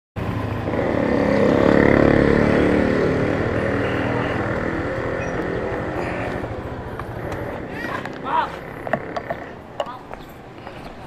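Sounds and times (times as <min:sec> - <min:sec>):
motor scooter engine running: 0:00.2 - 0:09.6.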